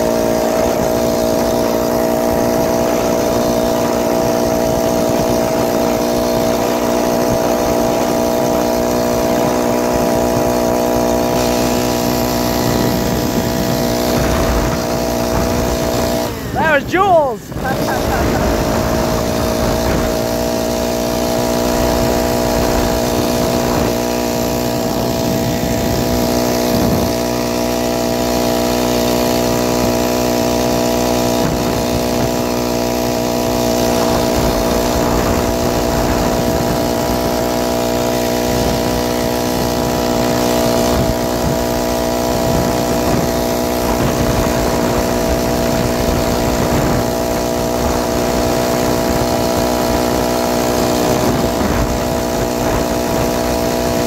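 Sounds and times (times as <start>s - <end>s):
motorized bicycle engine running: 0.0s - 16.8s, 17.4s - 54.0s.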